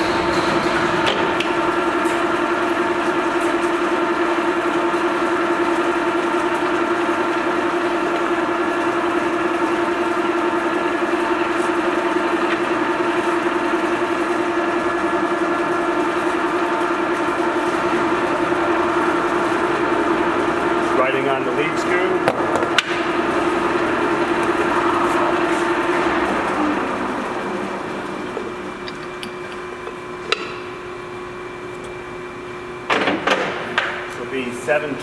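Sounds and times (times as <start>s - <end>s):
lathe running with whine: 0.0s - 35.0s.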